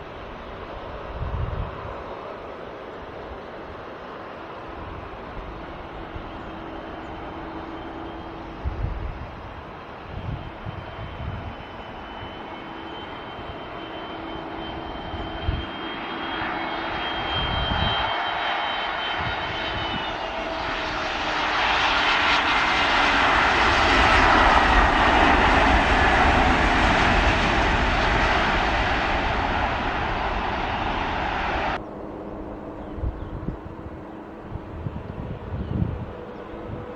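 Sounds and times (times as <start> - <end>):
airliner engines passing: 0.0 - 36.9.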